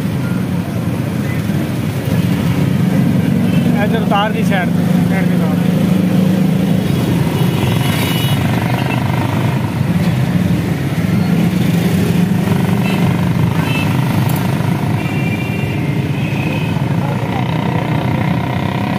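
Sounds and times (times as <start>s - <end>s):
hum of street traffic: 0.0s - 18.9s
motorcycle engine running: 1.9s - 18.9s.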